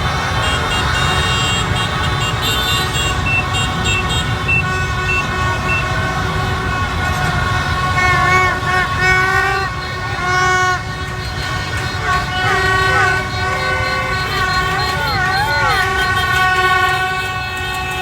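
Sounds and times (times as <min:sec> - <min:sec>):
street traffic engines running: 0:00.0 - 0:18.0
vehicle horns honking: 0:00.0 - 0:18.0.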